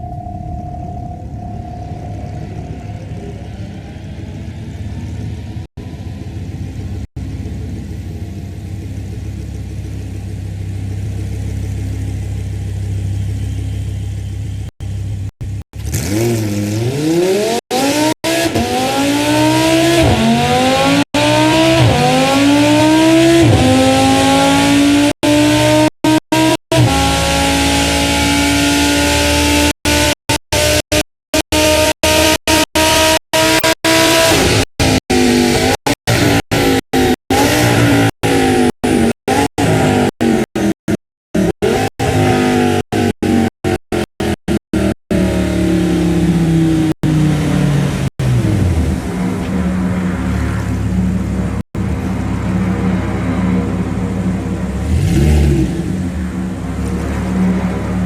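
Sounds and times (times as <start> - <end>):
car engine revving: 1.3 - 58.0.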